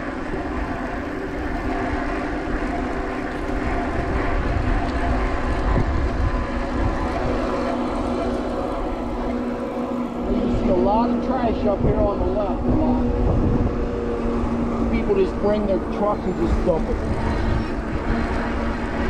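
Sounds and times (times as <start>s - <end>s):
electric motor whine: 0.0s - 19.0s
wind rumbling on microphone: 0.0s - 19.0s.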